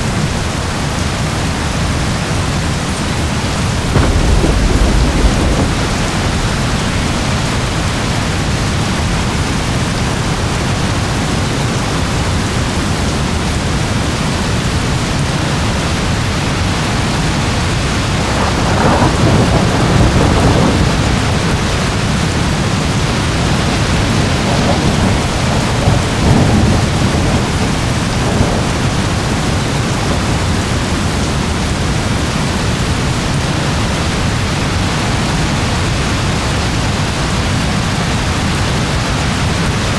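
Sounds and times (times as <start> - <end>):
steady rain: 0.0 - 39.9
low rolls of thunder: 1.4 - 39.9.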